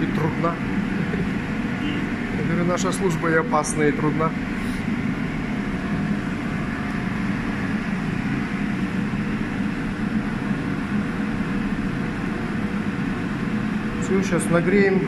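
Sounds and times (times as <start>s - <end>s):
fan heater blowing hum: 0.0s - 15.0s.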